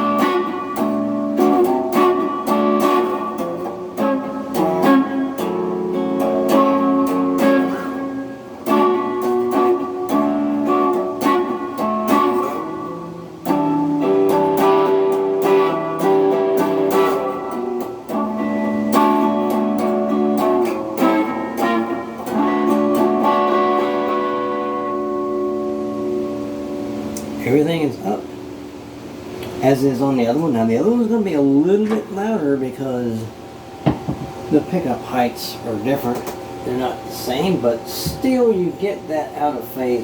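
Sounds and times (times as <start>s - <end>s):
electric guitar chords: 0.0s - 40.0s.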